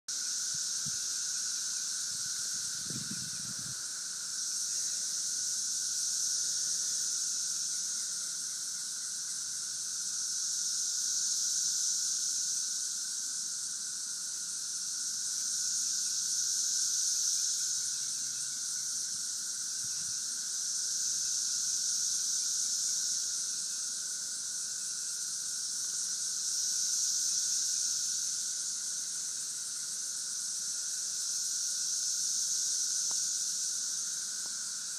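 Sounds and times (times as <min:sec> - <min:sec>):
cicadas droning: 0:00.1 - 0:34.9.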